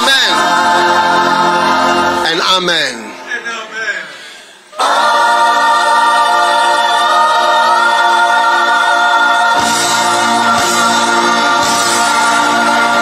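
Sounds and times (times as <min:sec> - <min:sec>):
gospel choir singing held chords: 0:00.0 - 0:03.3, 0:04.2 - 0:13.0.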